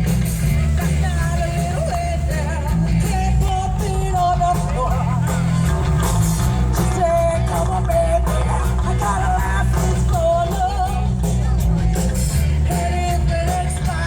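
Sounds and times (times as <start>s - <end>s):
loud rock music with singer: 0.0s - 14.0s.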